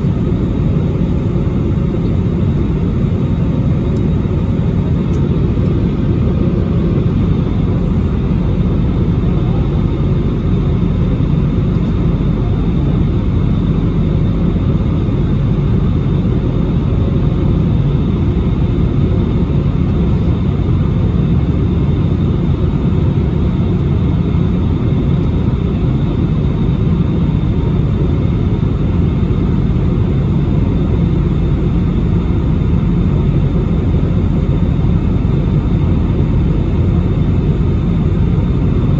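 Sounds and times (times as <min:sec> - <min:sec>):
engine and airflow rumble: 0:00.0 - 0:38.9.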